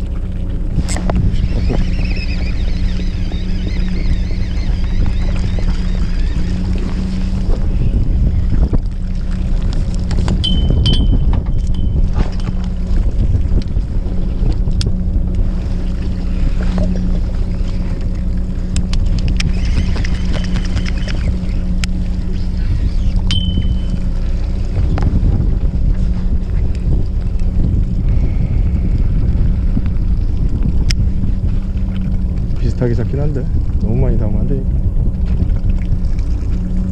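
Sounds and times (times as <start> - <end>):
boat engine humming: 0.0 - 36.9
wind buffeting microphone: 0.0 - 36.9.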